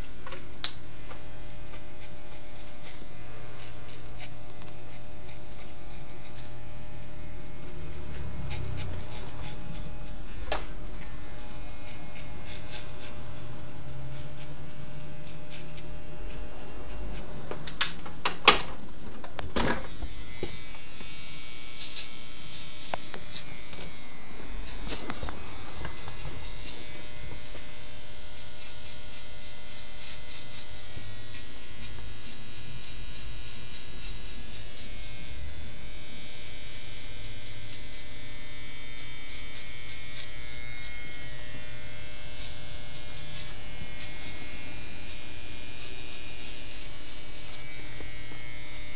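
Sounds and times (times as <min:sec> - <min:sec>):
electric hair clippers running: 0:00.0 - 0:48.9.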